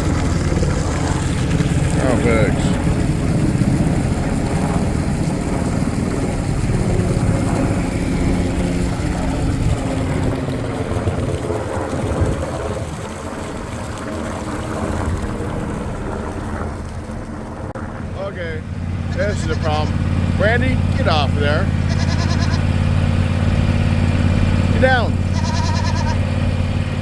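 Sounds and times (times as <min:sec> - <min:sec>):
helicopters flying over: 0:00.0 - 0:27.0.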